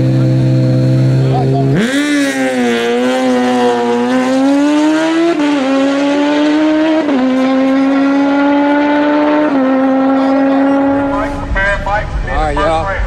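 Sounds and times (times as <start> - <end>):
motorcycle engine at full throttle: 0.0 - 13.0.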